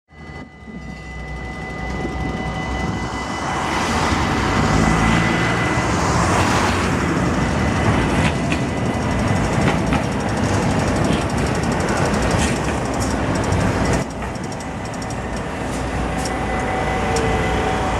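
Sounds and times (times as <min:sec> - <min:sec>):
tram running on track: 0:00.1 - 0:17.9.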